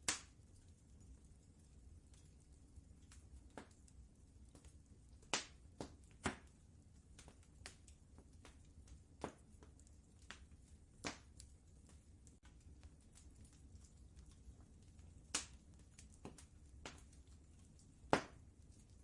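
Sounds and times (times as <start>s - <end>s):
faint low rumble: 0.0s - 19.0s
wood fire crackling: 0.0s - 19.0s.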